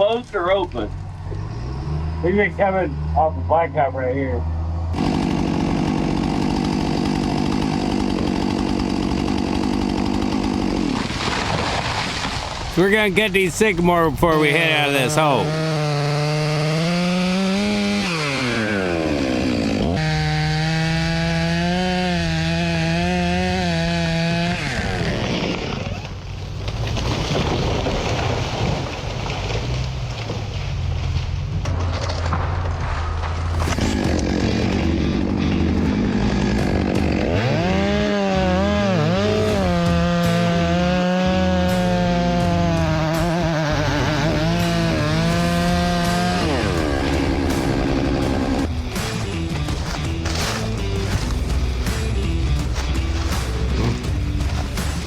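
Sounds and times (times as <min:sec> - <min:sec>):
chainsaw cutting wood: 0:04.9 - 0:29.8, 0:33.4 - 0:55.0.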